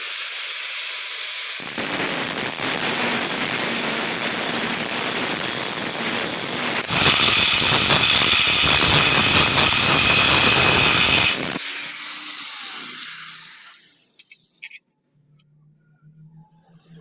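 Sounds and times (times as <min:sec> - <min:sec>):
angle grinder cutting steel: 0:00.0 - 0:14.8.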